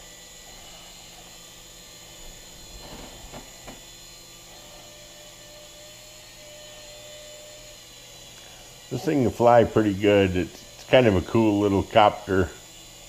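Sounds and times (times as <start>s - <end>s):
toy helicopter motor whining: 0.0s - 13.0s.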